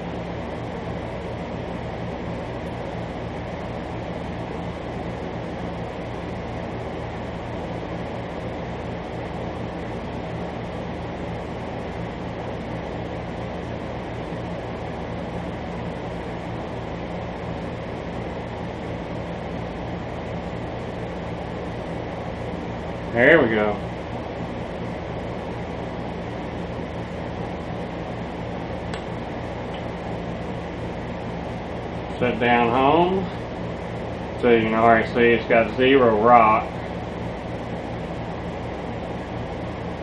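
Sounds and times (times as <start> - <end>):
air conditioner running: 0.0 - 40.0.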